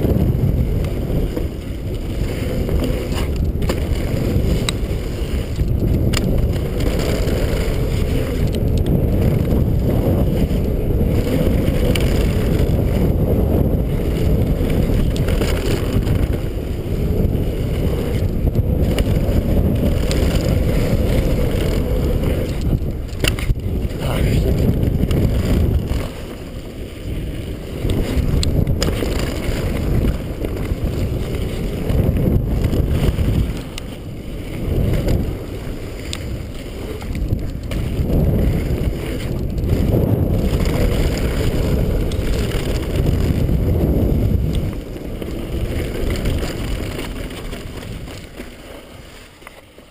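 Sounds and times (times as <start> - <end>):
bike clattering over bumps: 0.0 - 49.9
tyres on dirt trail: 0.0 - 49.9
wind buffeting microphone: 0.0 - 49.9.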